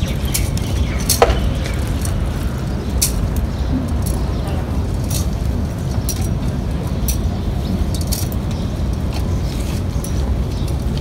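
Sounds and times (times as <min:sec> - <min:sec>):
censer chains clinking: 0:00.0 - 0:11.0
steady low rumble: 0:00.0 - 0:11.0.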